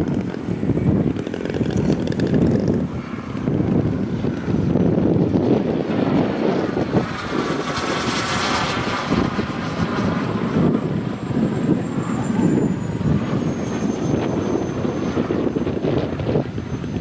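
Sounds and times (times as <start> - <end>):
high turbine whistle: 0.0 - 17.0
model jet turbine engine: 0.0 - 17.0
wind rumble on microphone: 0.0 - 17.0.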